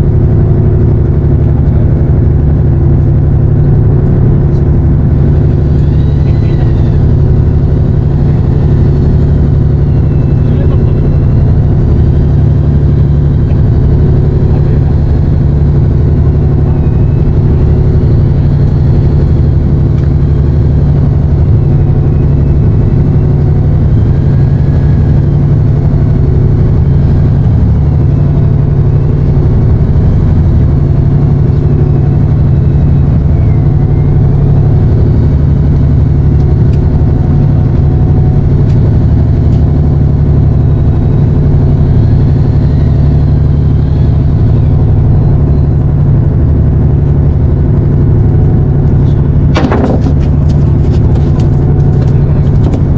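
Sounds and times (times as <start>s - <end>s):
boat engine drone: 0.0s - 52.9s.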